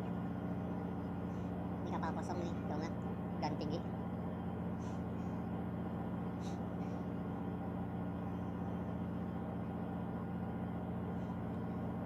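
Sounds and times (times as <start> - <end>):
diesel engines droning: 0.0 - 12.0.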